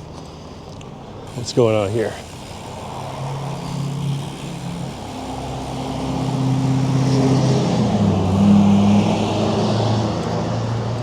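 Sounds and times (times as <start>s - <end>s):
traffic noise: 0.0s - 11.0s
vehicle engine humming: 0.0s - 11.0s.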